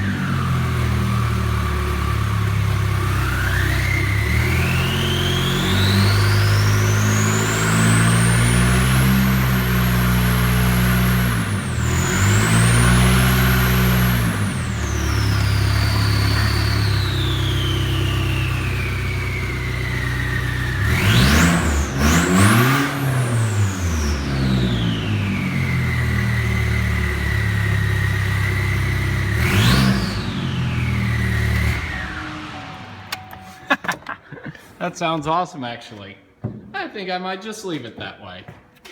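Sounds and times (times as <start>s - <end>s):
car engine revving: 0.0s - 33.4s.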